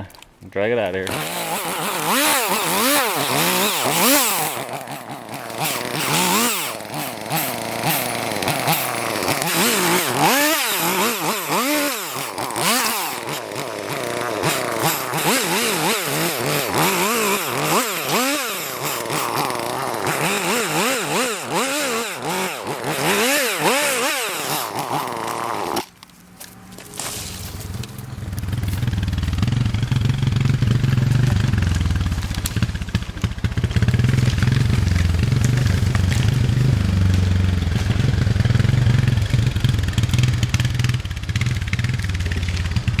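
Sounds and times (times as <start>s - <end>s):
vehicle engine running: 0.9s - 24.6s, 25.9s - 43.0s
chainsaw revving and cutting: 0.9s - 43.0s.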